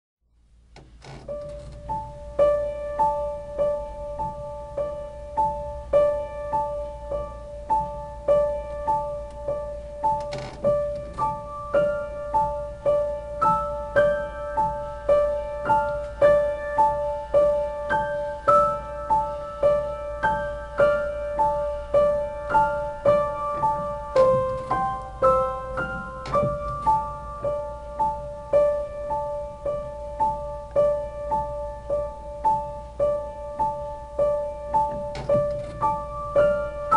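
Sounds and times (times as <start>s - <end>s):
solo piano piece: 0.5s - 36.9s.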